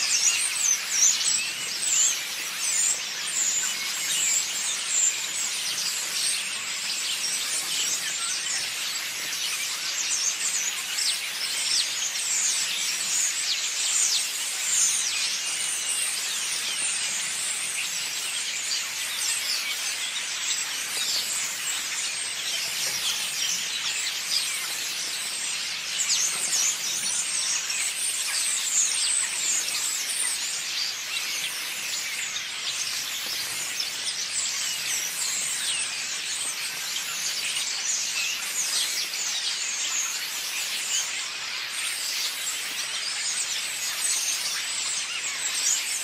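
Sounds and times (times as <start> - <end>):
flock of birds twittering: 0.0 - 46.0.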